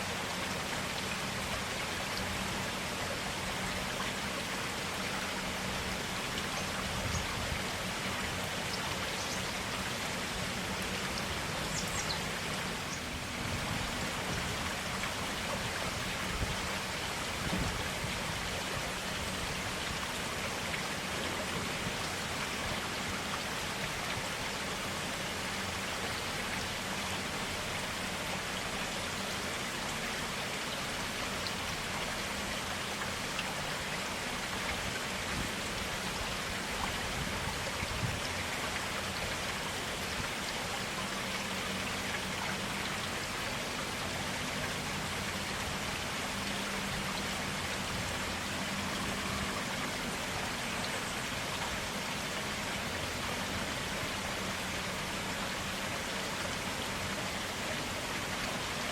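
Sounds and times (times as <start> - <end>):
forest stream flowing: 0.0 - 58.9.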